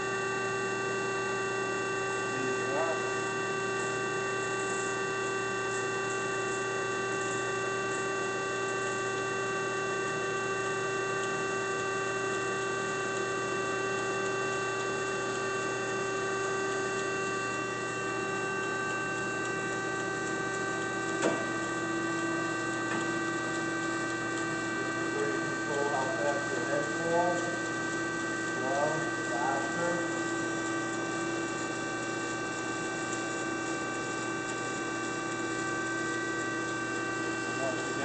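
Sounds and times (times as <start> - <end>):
band saw humming and whining: 0.0 - 38.0.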